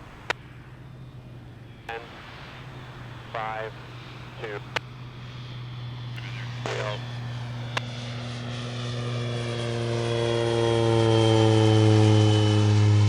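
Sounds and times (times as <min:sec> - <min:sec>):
aircraft engine landing: 0:00.0 - 0:13.0.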